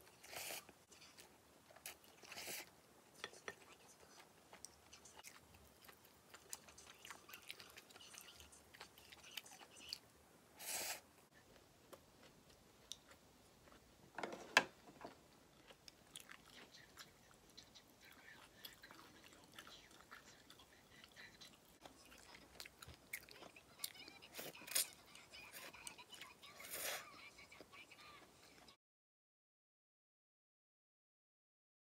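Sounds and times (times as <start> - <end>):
chewing: 0.0 - 10.0, 11.3 - 13.8, 15.5 - 28.7.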